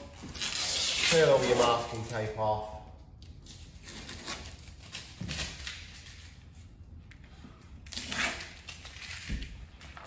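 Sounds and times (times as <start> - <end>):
masking tape being peeled: 0.0 - 2.4, 3.0 - 6.8, 7.8 - 10.0.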